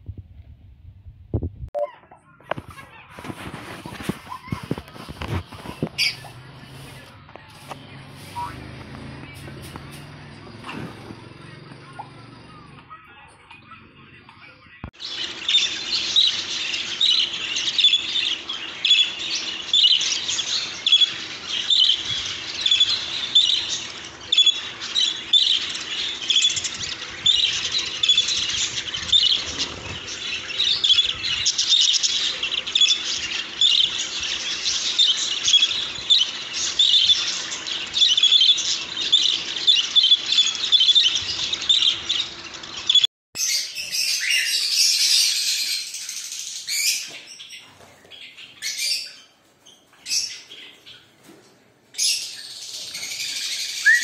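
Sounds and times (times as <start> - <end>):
budgerigars chattering: 3.9 - 14.2, 15.0 - 49.3, 52.0 - 54.0.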